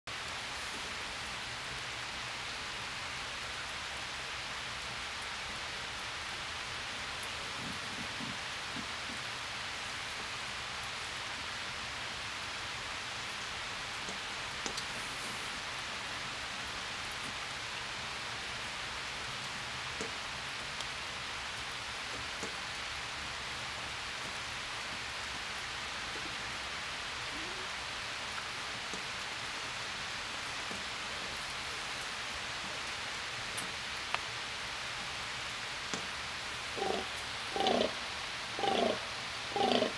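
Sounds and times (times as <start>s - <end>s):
light rain falling: 0.1s - 39.9s.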